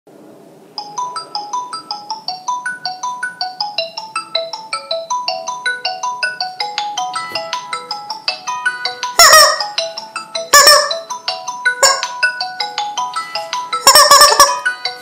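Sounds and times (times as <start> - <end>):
smartphone ringtone melody: 0.8 - 15.0.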